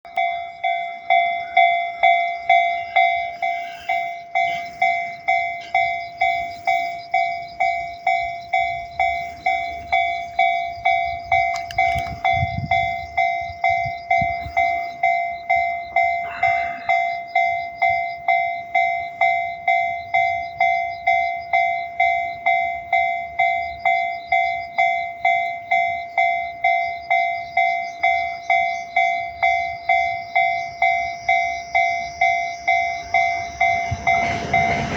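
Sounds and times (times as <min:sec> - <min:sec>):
level crossing warning bell ringing: 0:00.1 - 0:34.9.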